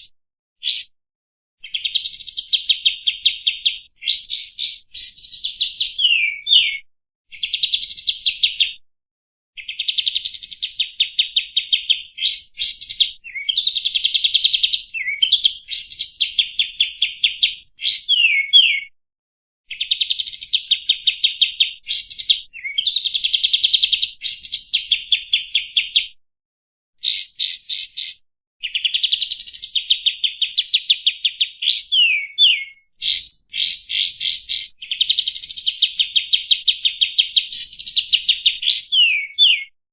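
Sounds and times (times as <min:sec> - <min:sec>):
songbird singing trills and whistles: 0:00.0 - 0:00.9, 0:01.6 - 0:08.8, 0:09.6 - 0:18.9, 0:19.7 - 0:26.2, 0:27.0 - 0:39.8.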